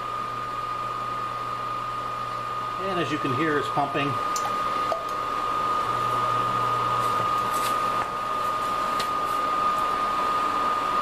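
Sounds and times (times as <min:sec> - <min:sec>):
pump whirring with high whine: 0:00.0 - 0:11.0.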